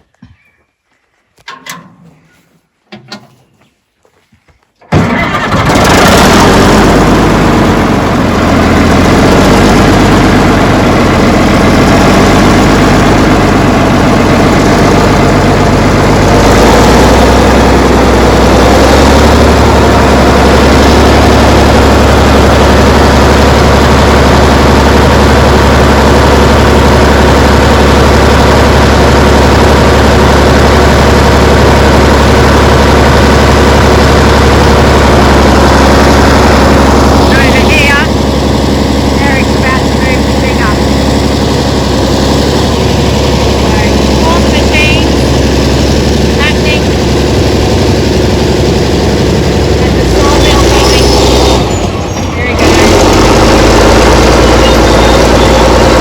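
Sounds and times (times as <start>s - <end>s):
bulldozer engine running: 0.9s - 56.0s.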